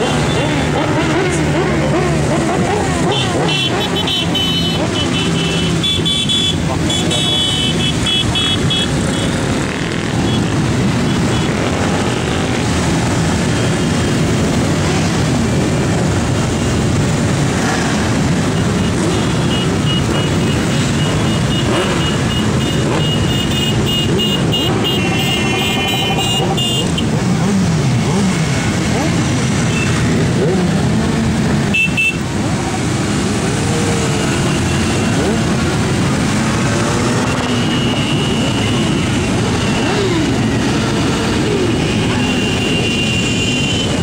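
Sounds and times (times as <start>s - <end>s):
motorcycles riding past: 0.0s - 5.8s, 6.6s - 44.0s.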